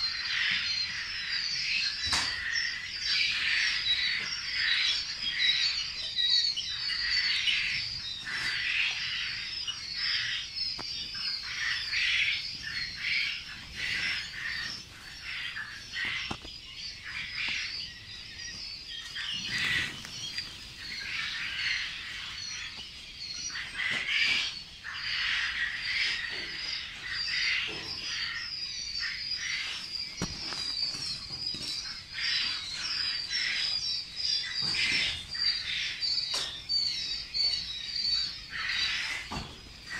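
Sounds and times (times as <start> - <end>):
quail chicks peeping: 0.0 - 39.9.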